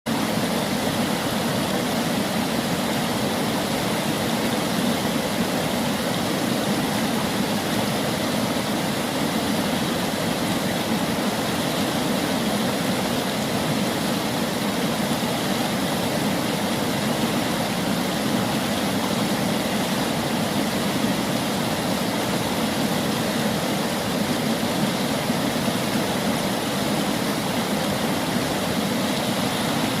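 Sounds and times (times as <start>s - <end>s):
river water flowing: 0.1s - 30.0s.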